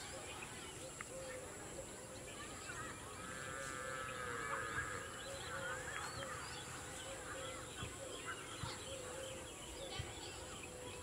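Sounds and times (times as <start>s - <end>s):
birds chirping and calling: 0.0s - 11.0s.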